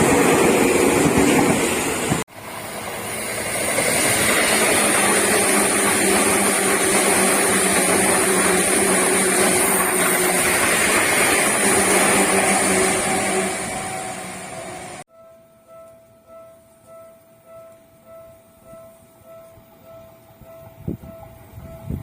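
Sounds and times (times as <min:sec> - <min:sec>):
electric train passing: 0:00.0 - 0:15.0, 0:17.5 - 0:22.0.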